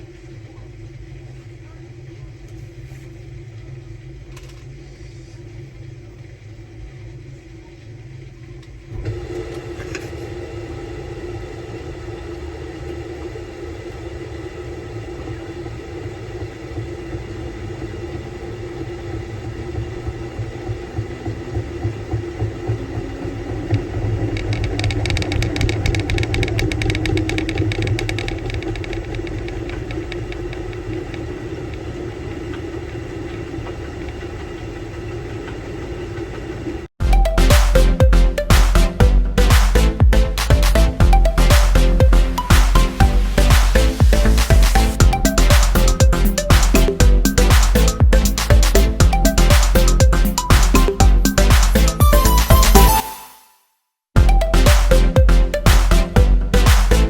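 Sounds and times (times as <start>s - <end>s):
washing machine motor hum: 0.0s - 53.0s, 54.2s - 57.0s.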